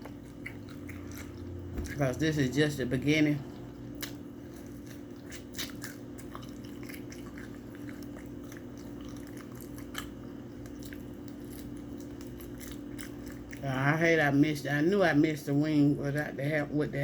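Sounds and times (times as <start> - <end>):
person chewing: 0.0 - 14.0
steady low hum: 0.0 - 17.0.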